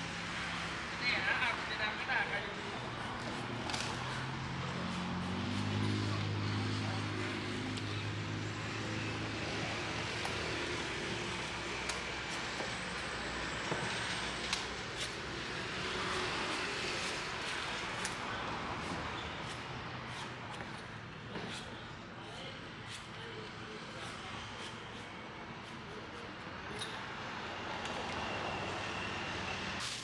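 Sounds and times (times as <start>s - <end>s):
street traffic engines: 0.0s - 30.0s.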